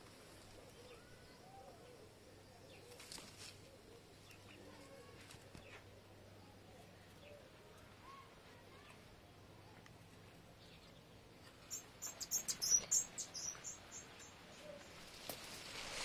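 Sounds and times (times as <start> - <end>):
faint bird calls: 0.3 - 9.9, 10.6 - 15.0.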